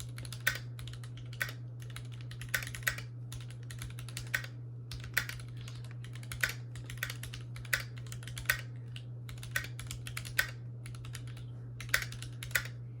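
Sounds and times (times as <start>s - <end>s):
mechanical keyboard typing: 0.0s - 12.8s.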